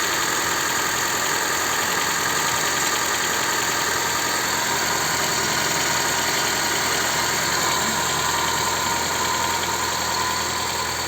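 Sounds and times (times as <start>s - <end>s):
car engine idling with tapping knock: 0.0s - 11.0s.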